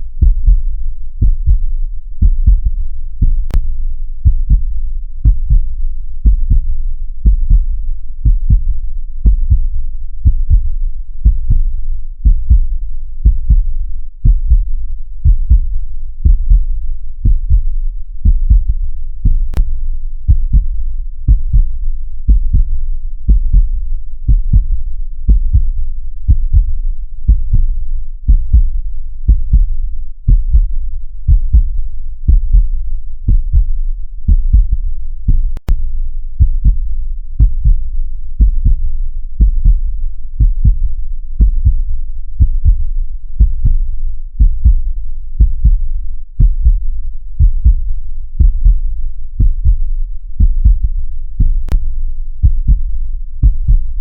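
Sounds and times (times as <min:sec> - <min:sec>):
heartbeat thumps: 0:00.2 - 0:19.7, 0:20.3 - 0:27.7, 0:28.3 - 0:35.8, 0:36.4 - 0:54.0.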